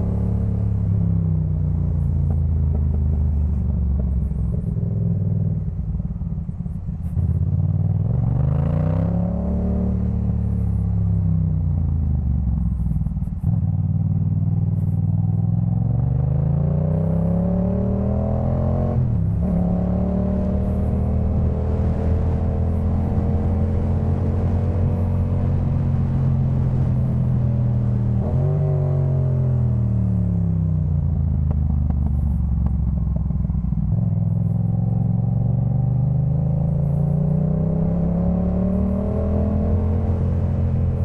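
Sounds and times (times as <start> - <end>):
motorcycle engine revving: 2.1 - 41.0.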